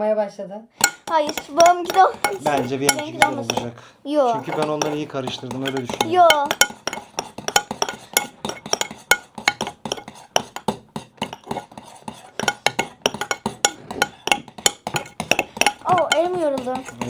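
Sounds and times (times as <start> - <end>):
spoons clinking against bowls: 0.8 - 17.0.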